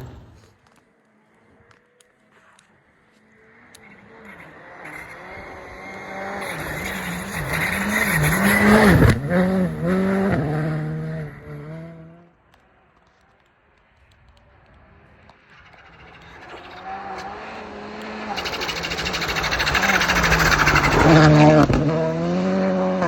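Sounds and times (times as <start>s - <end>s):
rally car passing at speed: 2.3s - 12.4s, 14.0s - 23.0s.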